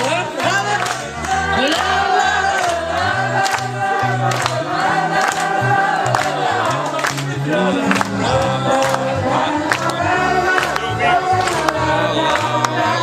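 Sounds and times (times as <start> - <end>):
bass line: 0.0 - 13.0
crowd singing la la la: 0.0 - 13.0.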